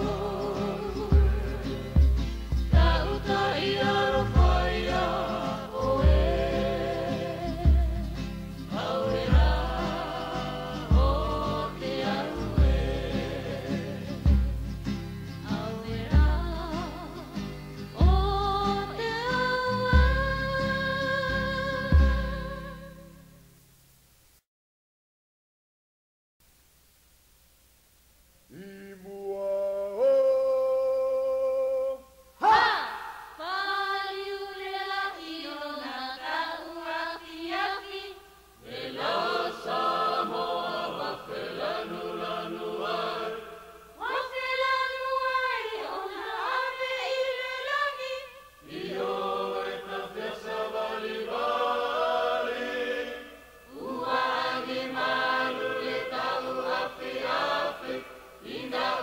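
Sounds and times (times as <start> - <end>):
group of voices singing: 0.0 - 14.7, 15.4 - 23.0, 28.5 - 59.0.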